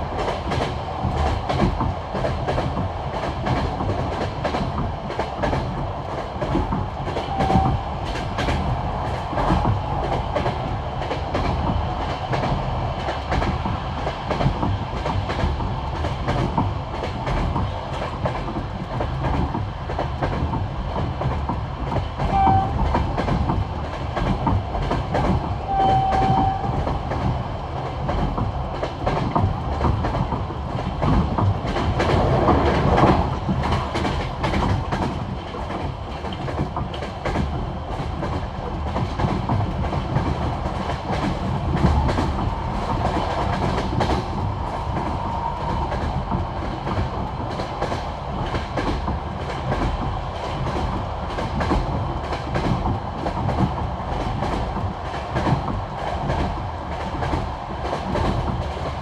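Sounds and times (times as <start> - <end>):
train rolling rumble: 0.0 - 59.0
train wheels clickety-clack: 0.0 - 59.0.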